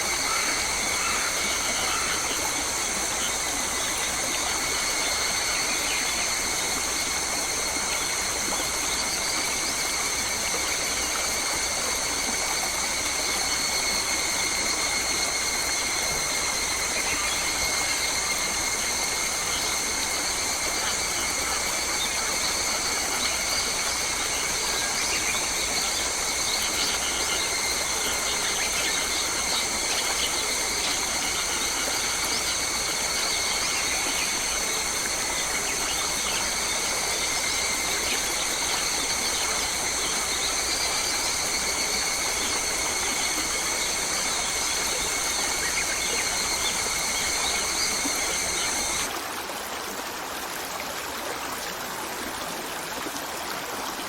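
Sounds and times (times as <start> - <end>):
running water hiss: 0.0 - 54.0.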